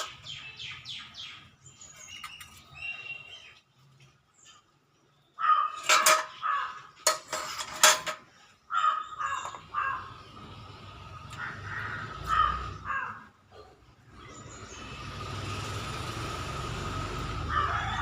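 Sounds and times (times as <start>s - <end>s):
harsh bird calls: 0.0s - 7.2s, 8.3s - 16.1s.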